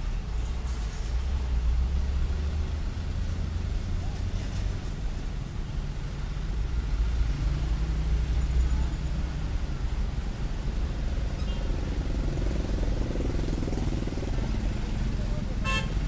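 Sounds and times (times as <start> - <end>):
road traffic rumbling: 0.0 - 16.0.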